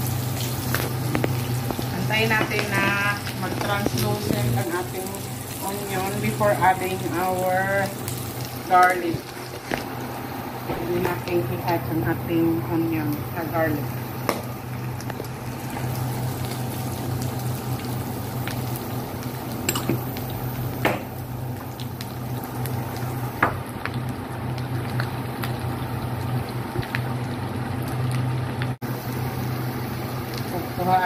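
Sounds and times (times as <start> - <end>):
food sizzling in hot oil: 0.0 - 31.0
steady low hum: 0.0 - 31.0.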